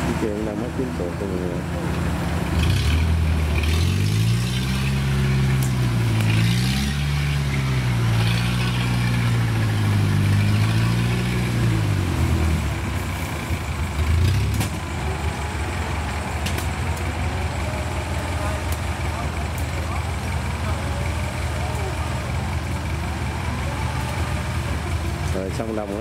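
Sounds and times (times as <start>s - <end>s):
combine harvester diesel engine: 0.0s - 26.0s.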